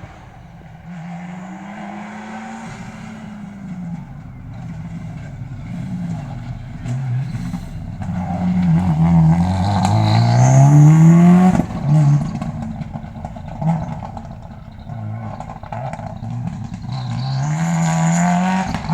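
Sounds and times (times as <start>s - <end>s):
rally car engine accelerating: 0.0s - 18.9s.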